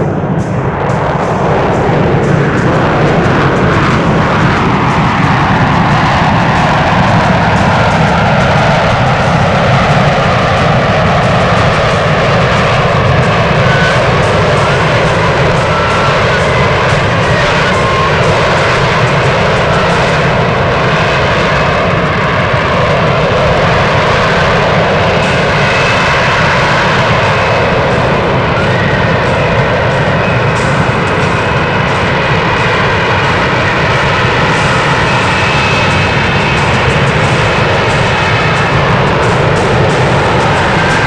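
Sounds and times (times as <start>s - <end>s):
jet engine roaring: 0.0s - 41.0s.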